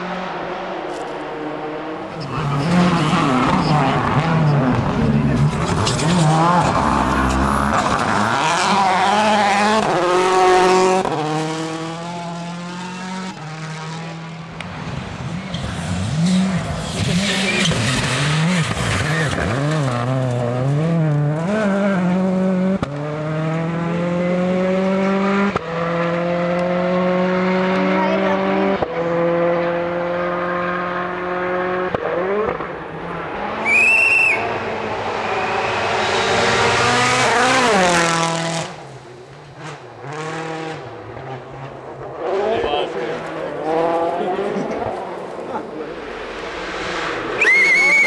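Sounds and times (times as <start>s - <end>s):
rally car engine at full throttle: 0.0s - 48.0s.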